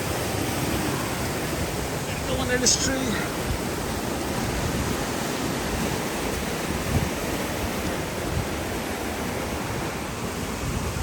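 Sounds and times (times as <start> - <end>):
river water rushing: 0.0 - 11.0
wind rumble on microphone: 0.0 - 11.0.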